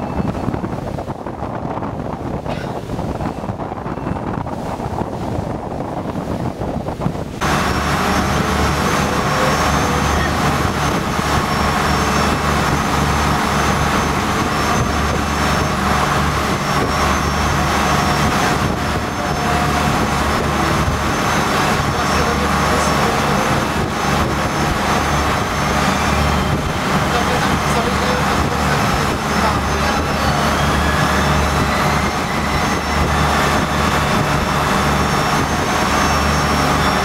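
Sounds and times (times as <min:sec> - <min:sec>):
motor boat engines droning: 0:00.0 - 0:37.0
wind noise: 0:00.0 - 0:37.0.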